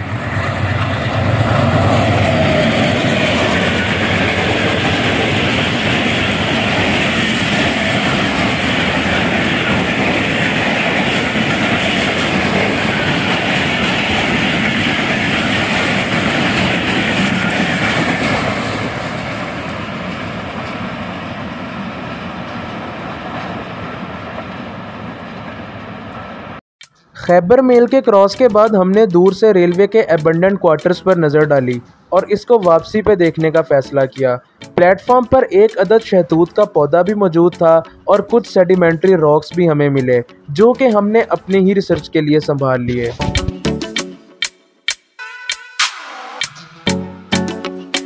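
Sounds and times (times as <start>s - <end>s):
passenger train passing on rails: 0.0s - 44.4s, 45.2s - 48.0s.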